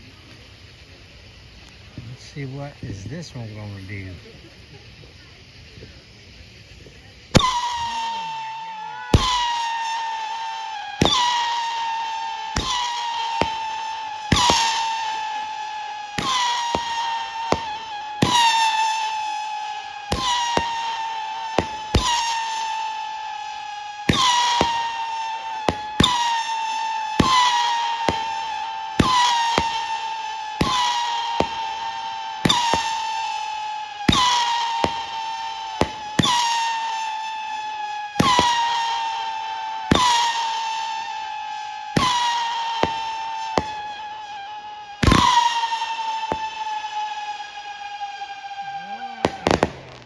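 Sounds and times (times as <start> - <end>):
firework bangs with whistling howl: 0.0 - 50.0
small firework cracks: 0.0 - 50.0.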